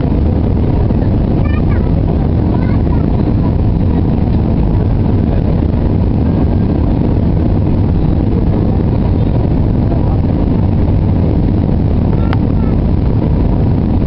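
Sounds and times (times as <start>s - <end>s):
jet engine roar in cabin: 0.0s - 14.0s.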